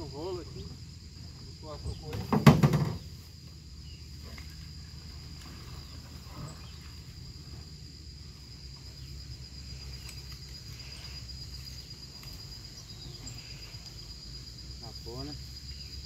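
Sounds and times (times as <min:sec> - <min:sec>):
insects trilling: 0:00.0 - 0:16.0
low steady rumble: 0:02.9 - 0:16.0.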